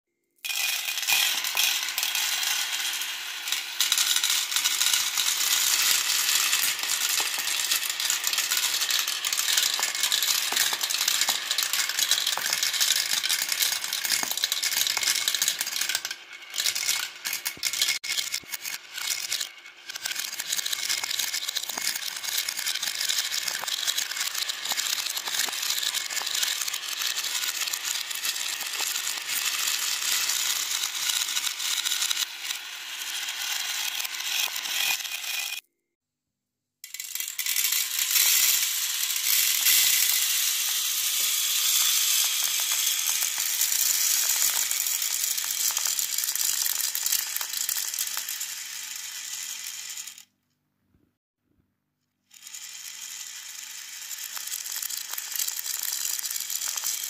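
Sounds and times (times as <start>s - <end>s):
marbles clattering in plastic track: 0.4s - 35.6s, 36.8s - 50.3s, 52.3s - 57.0s.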